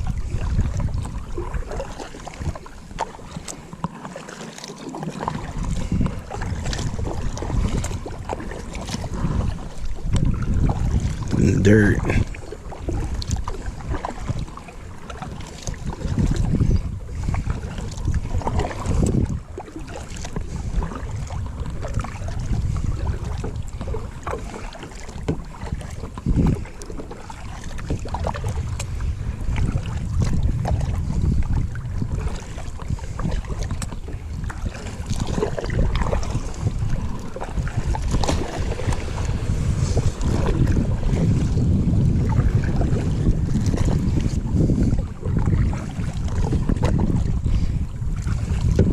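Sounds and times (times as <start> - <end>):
wind buffeting microphone: 0.0 - 3.8, 5.2 - 48.9.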